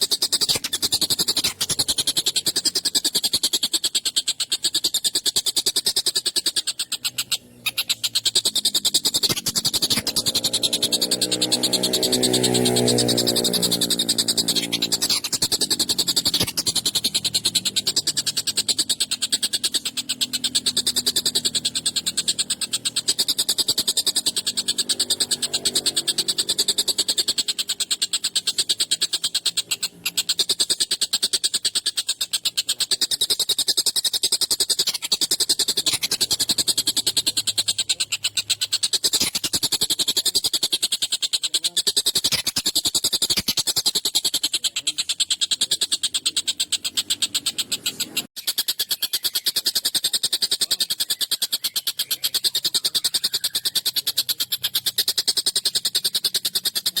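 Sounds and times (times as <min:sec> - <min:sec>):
kingfisher harsh rattling call: 0:00.0 - 0:57.0.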